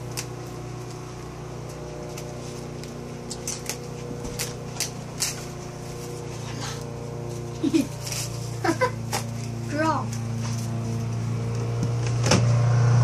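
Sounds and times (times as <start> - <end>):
plastic sheet and pages rustling: 0.0 - 11.3
steady low hum: 0.0 - 13.0.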